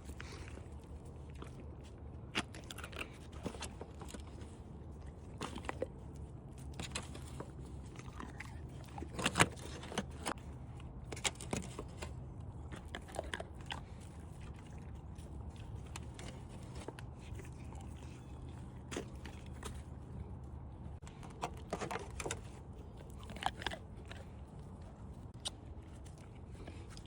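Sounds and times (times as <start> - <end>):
dogs crunching frozen food: 0.0 - 27.0
low steady hum: 0.0 - 27.0.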